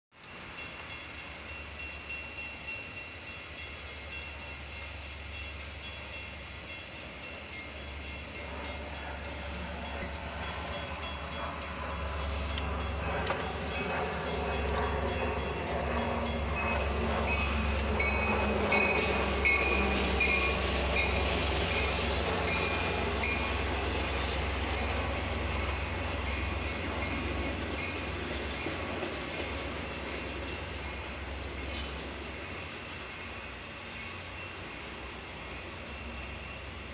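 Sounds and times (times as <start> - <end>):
train passing: 0.1 - 36.9
crossing warning bell ringing: 0.2 - 36.9.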